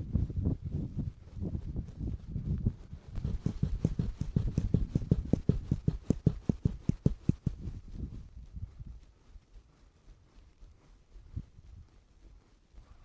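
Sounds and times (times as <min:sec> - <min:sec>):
footsteps on soft ground: 0:00.0 - 0:13.0.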